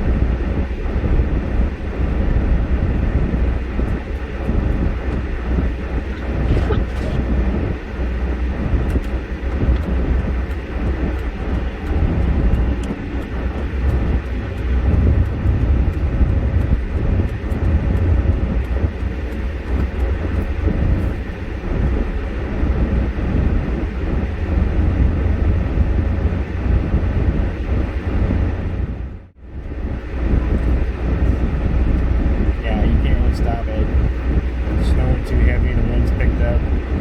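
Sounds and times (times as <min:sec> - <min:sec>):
vehicle road rumble: 0:00.0 - 0:37.0.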